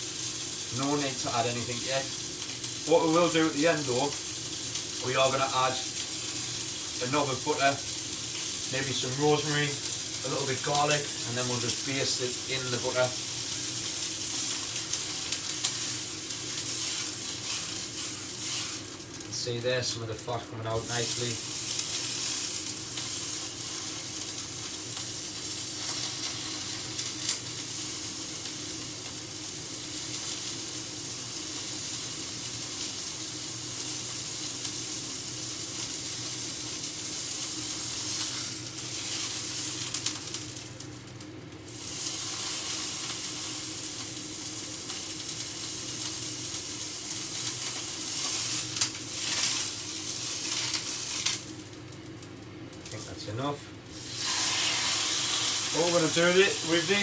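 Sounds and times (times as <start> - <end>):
steak sizzling in a hot pan: 0.0 - 57.0.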